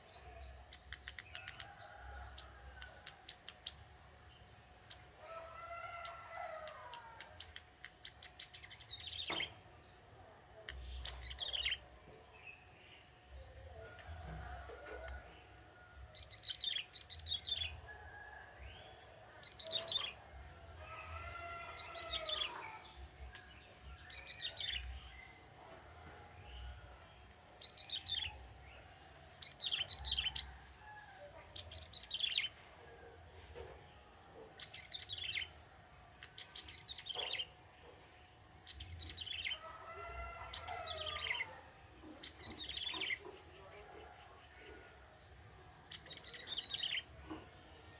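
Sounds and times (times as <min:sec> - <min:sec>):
bird chirping song: 0:00.0 - 0:05.2, 0:06.0 - 0:10.0, 0:10.6 - 0:14.6, 0:15.4 - 0:20.2, 0:20.9 - 0:25.6, 0:26.4 - 0:30.5, 0:31.3 - 0:32.7, 0:34.0 - 0:47.9.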